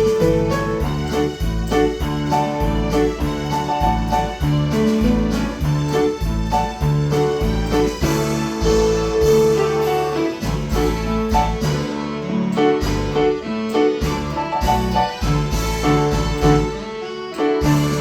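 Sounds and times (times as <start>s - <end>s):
piano-like keyboard chords: 0.0s - 18.0s.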